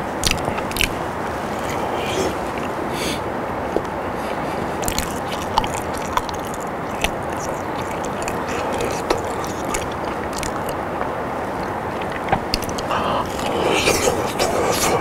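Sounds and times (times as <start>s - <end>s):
steady background hiss: 0.0s - 15.0s
wet chewing mouth clicks: 0.2s - 2.8s, 4.8s - 15.0s.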